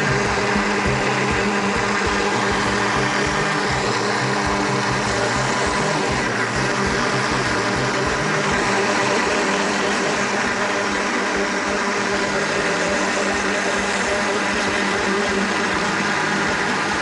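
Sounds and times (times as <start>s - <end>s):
blender motor running: 0.0s - 17.0s.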